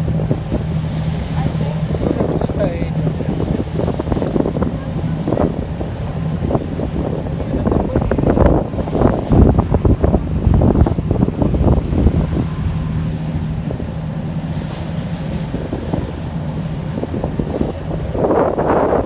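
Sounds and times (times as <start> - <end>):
boat engine humming: 0.0 - 19.0
water washing around hull: 0.0 - 19.0
wind buffeting microphone: 0.0 - 19.0.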